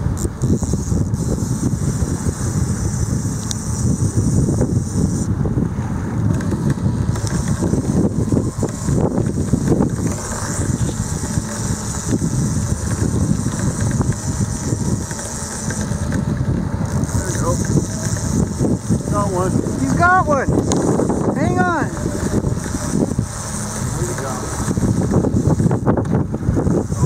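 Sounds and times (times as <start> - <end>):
outboard motor running: 0.0 - 27.0
wind buffeting microphone: 0.0 - 27.0.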